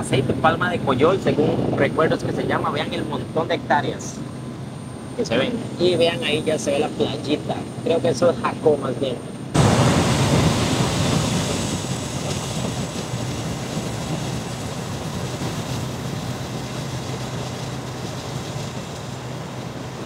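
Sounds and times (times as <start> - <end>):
turboprop cabin drone: 0.0 - 20.0.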